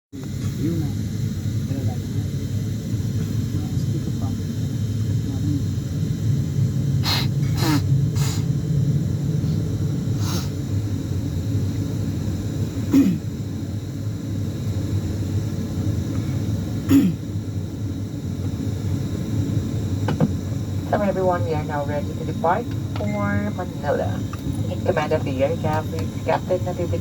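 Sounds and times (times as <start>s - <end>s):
turboprop engines droning: 0.2s - 27.0s.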